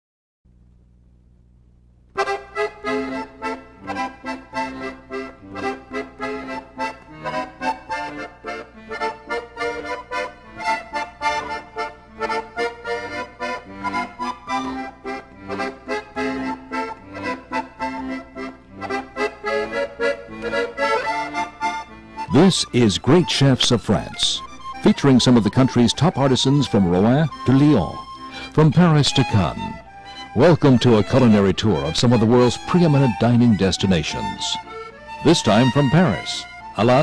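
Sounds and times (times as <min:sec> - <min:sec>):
lively instrumental theme music: 0:02.2 - 0:37.0.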